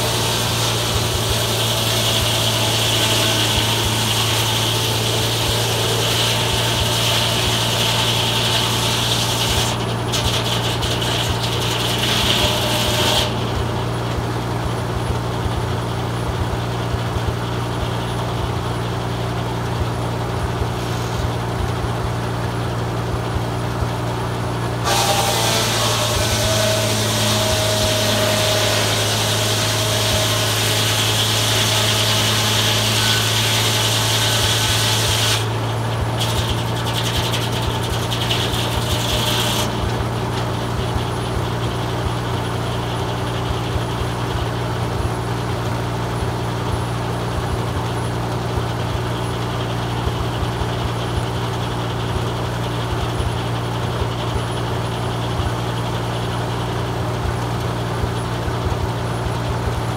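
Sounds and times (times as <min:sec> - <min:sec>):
tractor engine running: 0:00.0 - 0:31.6, 0:32.8 - 0:59.9
circular saw cutting log: 0:00.0 - 0:59.9.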